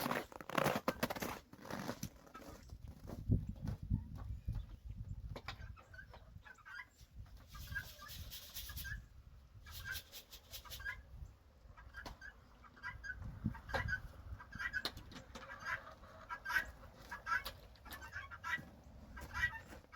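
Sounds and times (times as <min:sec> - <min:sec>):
chickens clucking: 0:03.6 - 0:19.9.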